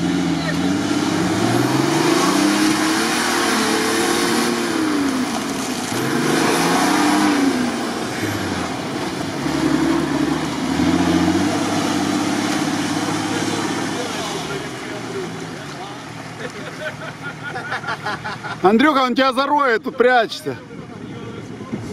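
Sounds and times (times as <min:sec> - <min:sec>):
engine revving under load: 0:00.0 - 0:18.6.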